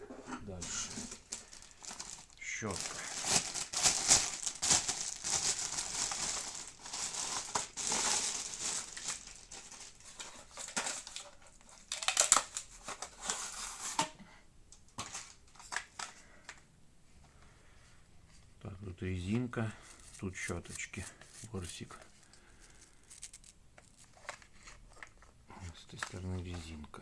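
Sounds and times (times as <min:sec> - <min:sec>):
packaging crinkling and rustling: 0:00.5 - 0:14.1, 0:14.9 - 0:16.6, 0:19.8 - 0:27.0.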